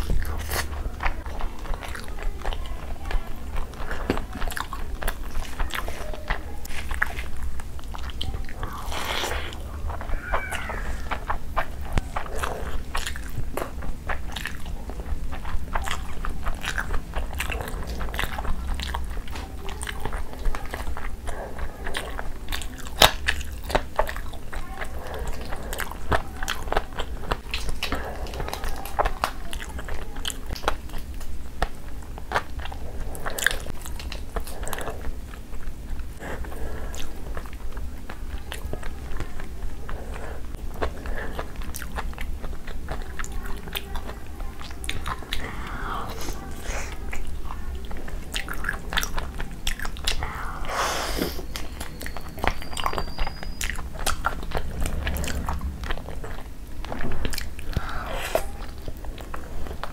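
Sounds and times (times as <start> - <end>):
chewing food: 0.0 - 59.9
steady low hum: 0.0 - 59.9
wet mouth clicks: 3.7 - 10.1, 10.9 - 59.9.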